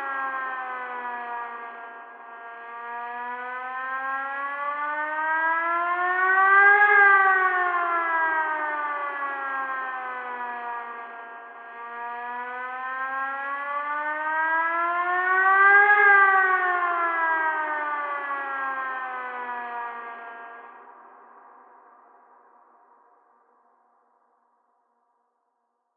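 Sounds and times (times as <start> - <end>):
warning siren wailing: 0.0 - 22.8.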